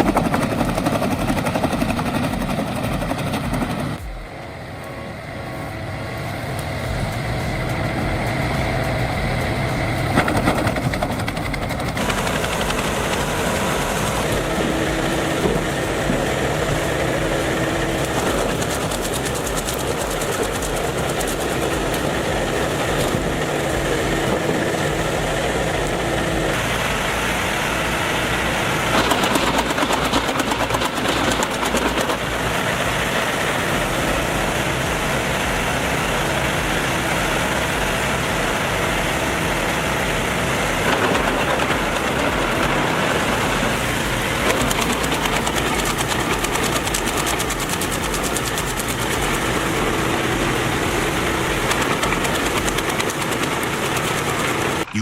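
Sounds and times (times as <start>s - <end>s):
heavy machinery engine: 0.0s - 55.0s.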